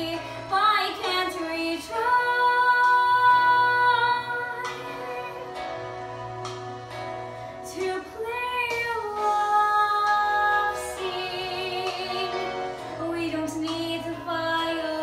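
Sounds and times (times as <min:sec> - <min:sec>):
girl singing: 0:00.0 - 0:05.7, 0:07.7 - 0:15.0.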